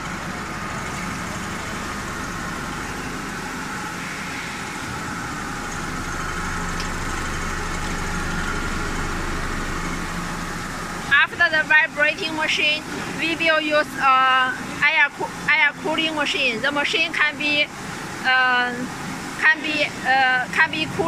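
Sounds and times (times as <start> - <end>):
conveyor machinery drone: 0.0 - 21.0.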